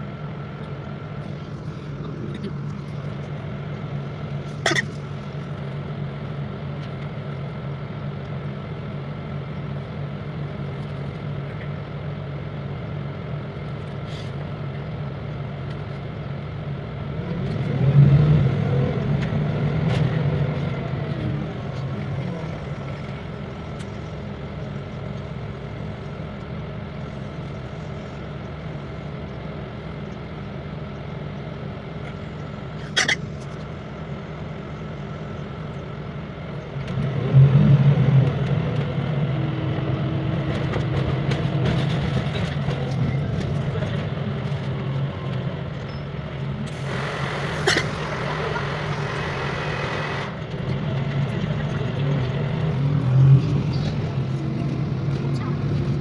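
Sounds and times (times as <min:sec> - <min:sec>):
bus engine and road hum: 0:00.0 - 0:56.0.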